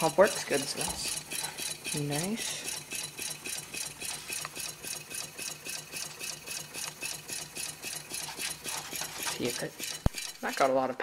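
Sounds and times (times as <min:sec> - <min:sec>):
small engine swishing strokes: 0:00.0 - 0:10.8
displacer rubbing inside cylinder: 0:00.0 - 0:10.9.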